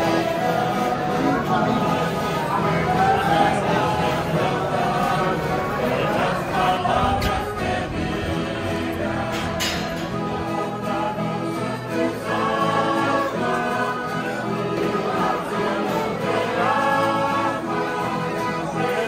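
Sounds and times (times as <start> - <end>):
choir singing held notes: 0.0 - 19.0.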